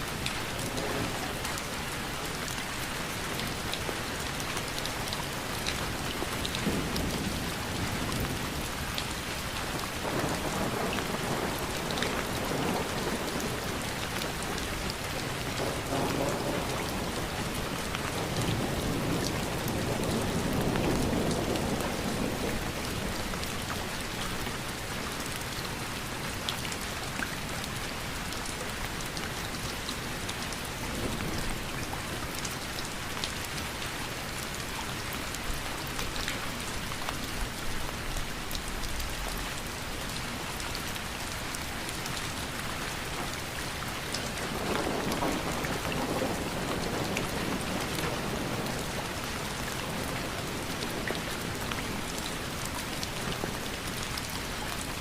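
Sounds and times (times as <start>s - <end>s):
rain hiss: 0.0s - 25.1s, 25.7s - 55.0s.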